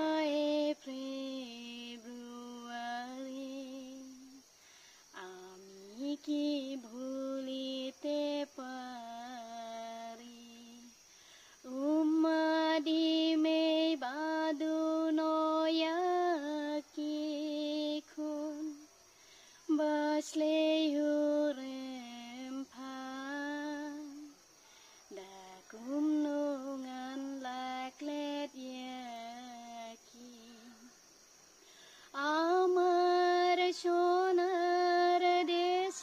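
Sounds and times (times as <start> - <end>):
woman singing unaccompanied: 0.0 - 31.1, 31.9 - 36.0.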